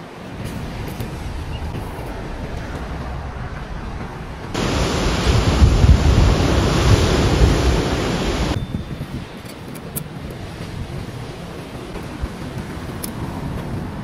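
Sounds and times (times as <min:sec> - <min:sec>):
ocean surf: 0:00.0 - 0:14.0
wind buffeting microphone: 0:00.1 - 0:14.0.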